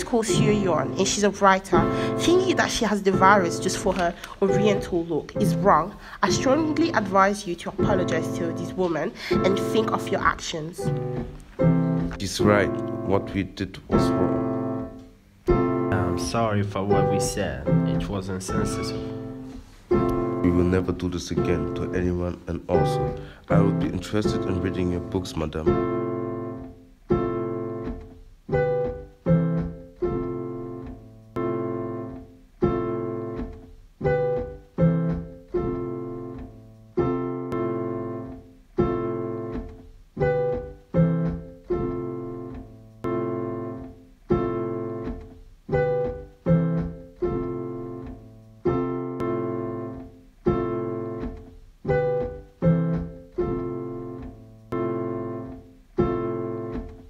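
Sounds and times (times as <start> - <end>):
slow piano music: 0.0 - 57.0.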